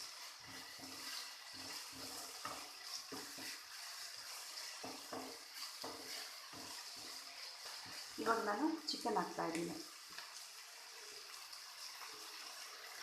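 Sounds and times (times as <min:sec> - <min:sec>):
food sizzling in oil: 0:00.0 - 0:13.0
spoon stirring in pan: 0:00.0 - 0:13.0.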